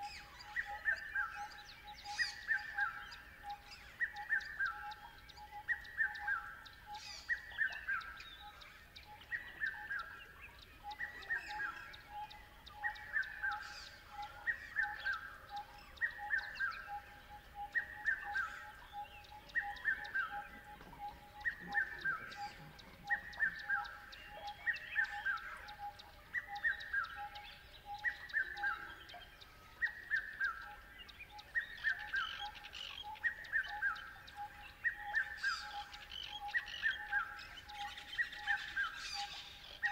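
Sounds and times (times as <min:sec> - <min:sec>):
high bird chirps: 0:00.0 - 0:39.9.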